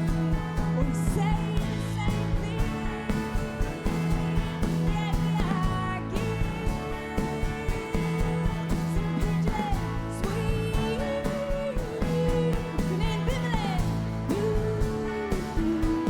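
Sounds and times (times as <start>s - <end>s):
live band playing rock song: 0.0s - 16.0s
steady drum beat: 0.0s - 16.0s.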